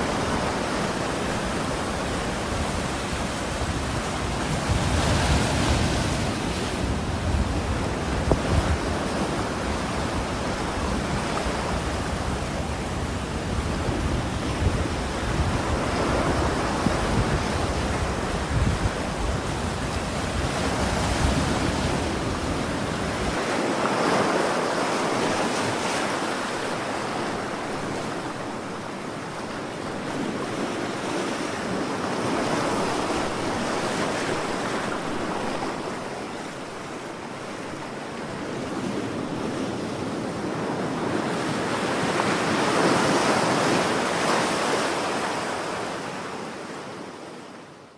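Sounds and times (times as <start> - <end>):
ocean waves surging: 0.0 - 47.6.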